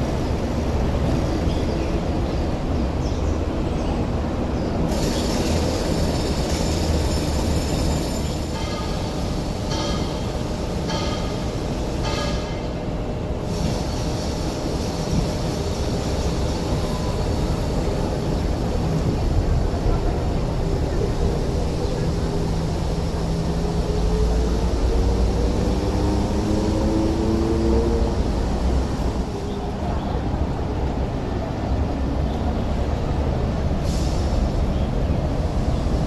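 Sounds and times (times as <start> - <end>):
wheels rumbling on rails: 0.0 - 36.0.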